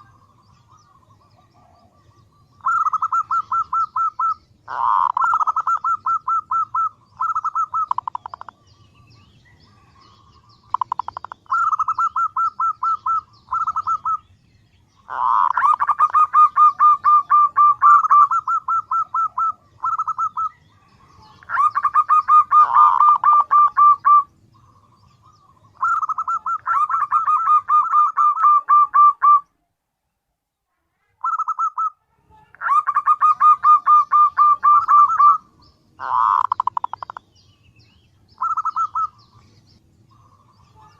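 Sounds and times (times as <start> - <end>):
dove calling: 0.0 - 29.5, 31.2 - 40.9.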